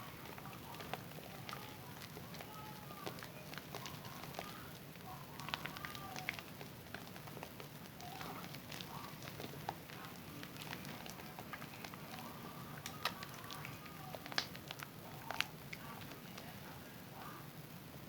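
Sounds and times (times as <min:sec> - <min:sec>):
hands lathering soap squishing: 0:00.0 - 0:16.8
bubbles crackling: 0:00.0 - 0:17.2.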